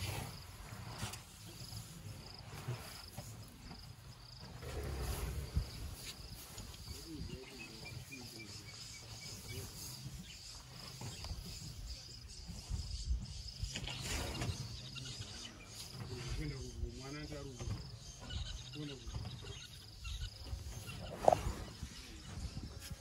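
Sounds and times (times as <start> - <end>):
elephants rustling and rumbling: 0.0 - 23.0.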